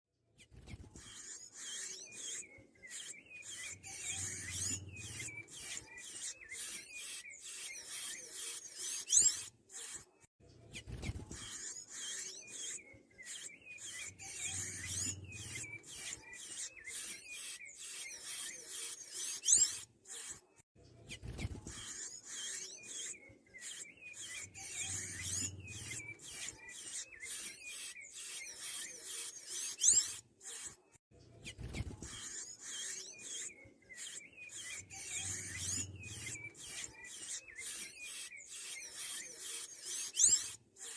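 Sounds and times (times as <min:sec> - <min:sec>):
bird twittering squeaky notes: 0:00.4 - 0:10.1, 0:10.7 - 0:20.4, 0:21.1 - 0:30.8, 0:31.4 - 0:40.9.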